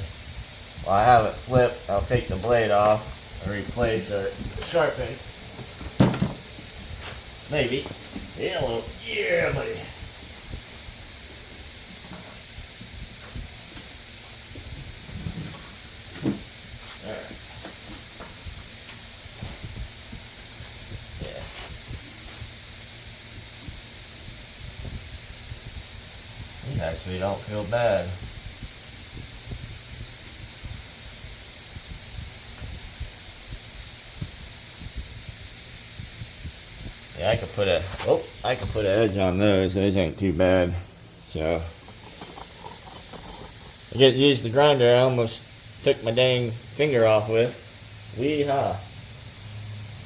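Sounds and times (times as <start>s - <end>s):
steady even hiss: 0.0s - 50.0s.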